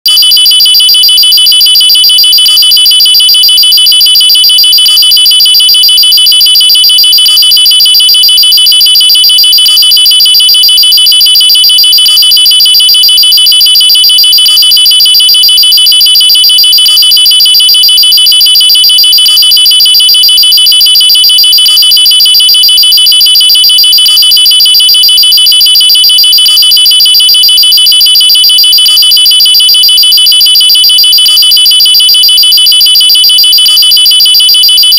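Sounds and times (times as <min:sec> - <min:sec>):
pulsing high-pitched electronic alarm: 0:00.0 - 0:34.9.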